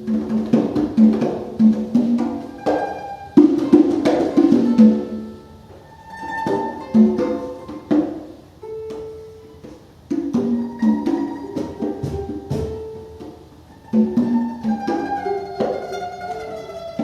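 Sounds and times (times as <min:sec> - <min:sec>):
conga hits: 0:00.0 - 0:17.0
plucked string notes: 0:00.0 - 0:17.0.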